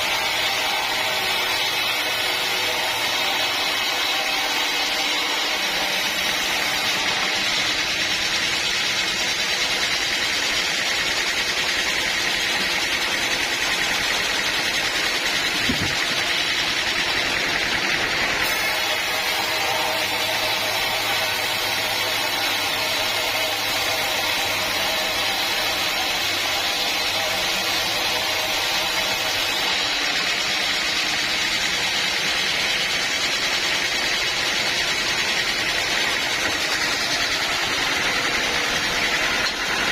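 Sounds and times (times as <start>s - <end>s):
bandsaw mill whine: 0.0s - 39.9s.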